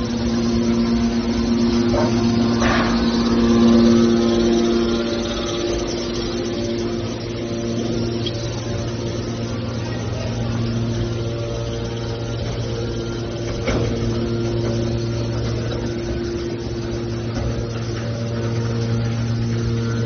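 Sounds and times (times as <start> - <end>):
baler motor and pump hum: 0.0 - 20.0.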